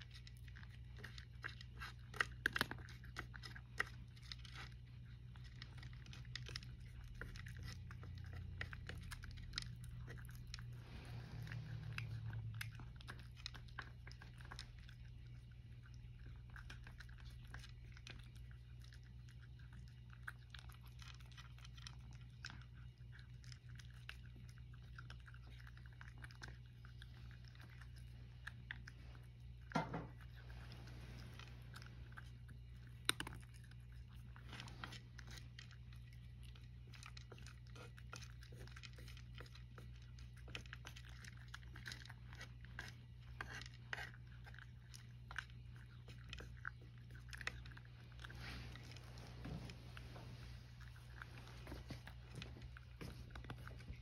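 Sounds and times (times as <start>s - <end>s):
cat crunching dry kibble: 0.0s - 54.0s.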